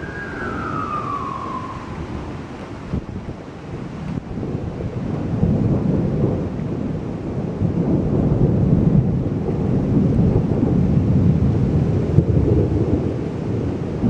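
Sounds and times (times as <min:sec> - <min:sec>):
rolling thunder rumble: 0:00.0 - 0:14.0.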